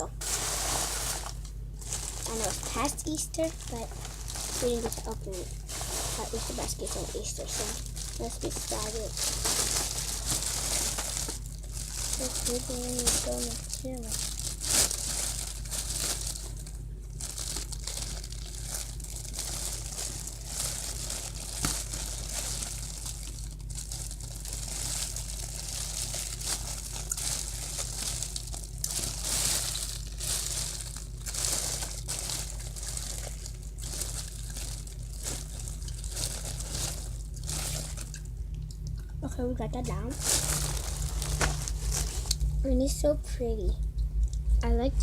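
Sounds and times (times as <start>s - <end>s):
plastic wrapping crackling: 0.0s - 39.0s, 39.7s - 42.6s
low hum: 0.0s - 45.0s.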